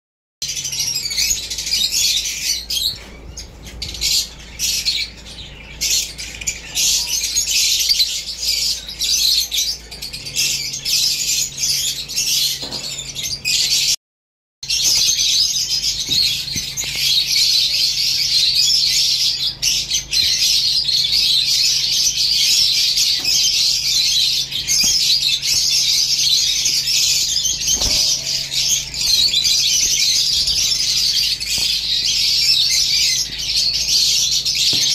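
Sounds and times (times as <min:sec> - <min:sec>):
lovebirds chattering and squawking: 0:00.4 - 0:14.0, 0:14.7 - 0:34.9.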